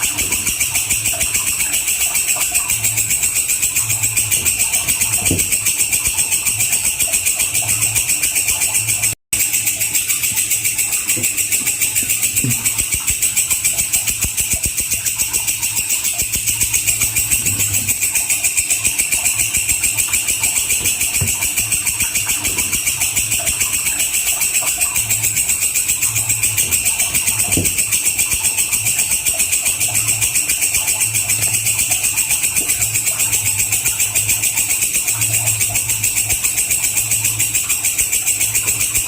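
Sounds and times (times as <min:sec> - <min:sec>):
insect stridulating: 0:00.0 - 0:39.0.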